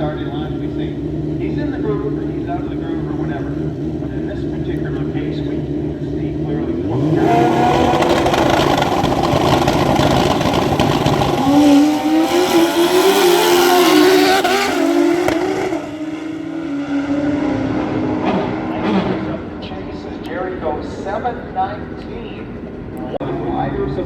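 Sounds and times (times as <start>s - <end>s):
motorcycle engine accelerating: 0.0s - 20.3s.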